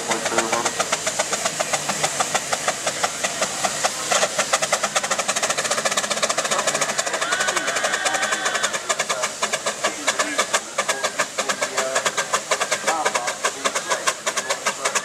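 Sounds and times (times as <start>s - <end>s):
steam wagon chuffing: 0.0s - 15.0s.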